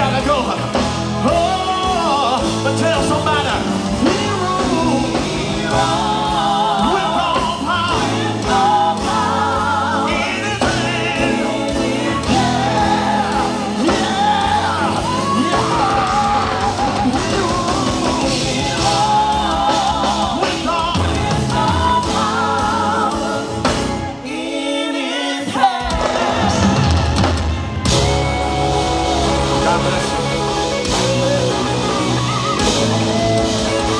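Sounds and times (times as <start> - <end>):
band playing: 0.0 - 24.7, 25.4 - 33.9
vocal quartet singing: 0.0 - 33.9.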